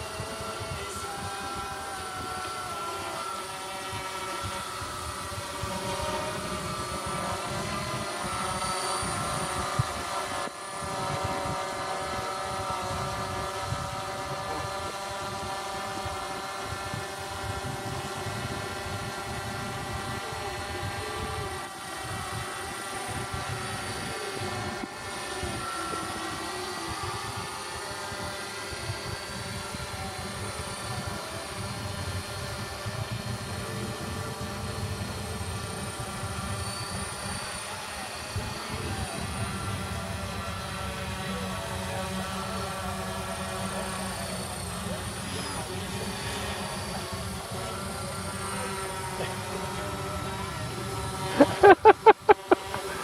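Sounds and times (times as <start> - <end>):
quadcopter drone motors whining: 0.0 - 53.0.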